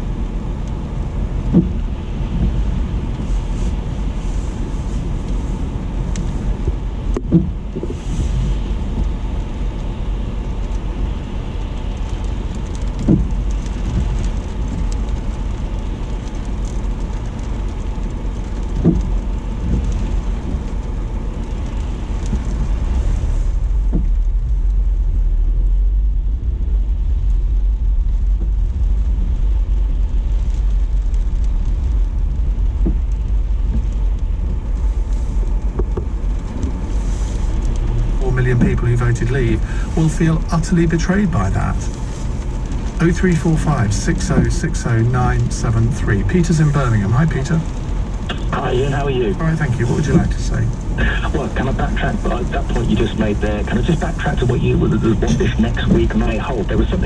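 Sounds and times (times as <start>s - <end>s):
car road rumble: 0.0s - 57.0s
rain hissing: 0.0s - 57.0s.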